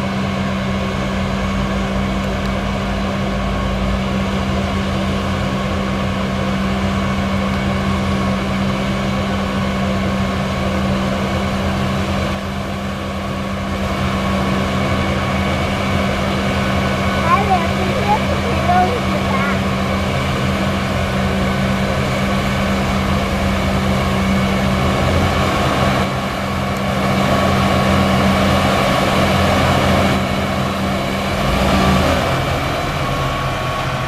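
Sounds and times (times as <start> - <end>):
harvesting machinery running: 0.0 - 34.0
tractor engine hum: 0.0 - 34.0.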